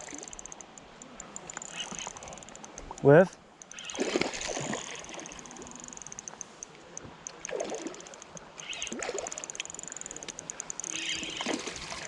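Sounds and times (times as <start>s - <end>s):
river flowing and trickling: 0.0s - 12.0s
small splashy clicks: 0.0s - 12.0s.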